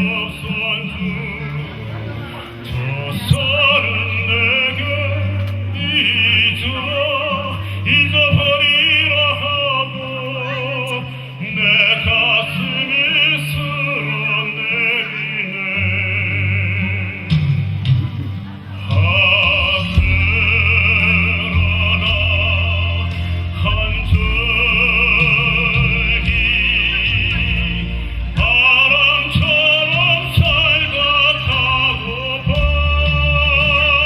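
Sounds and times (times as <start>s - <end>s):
sustained low bass notes: 0.0s - 34.0s
operatic music with vibrato melody: 0.2s - 34.0s.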